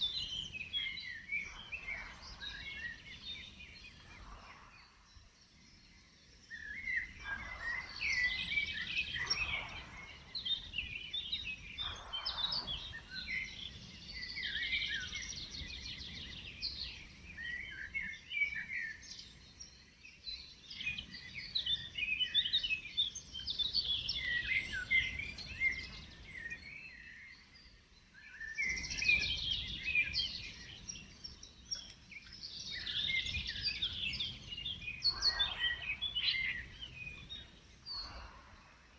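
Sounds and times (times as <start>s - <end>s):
songbirds chirping: 0.0s - 38.9s
wind rustling trees: 0.0s - 38.9s.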